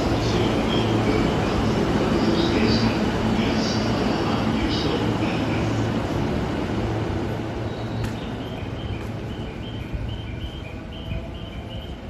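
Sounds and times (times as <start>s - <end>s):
electric train running noise: 0.0s - 12.0s.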